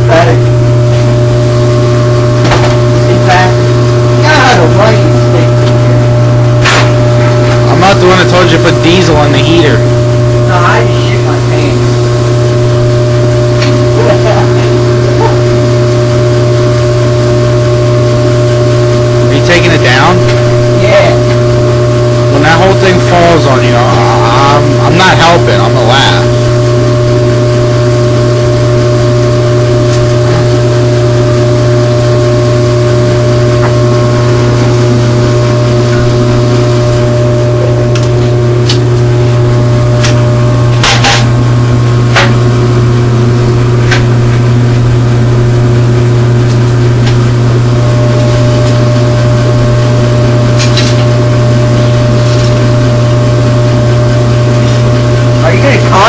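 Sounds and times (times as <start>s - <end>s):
forced-air heater humming: 0.0s - 56.0s.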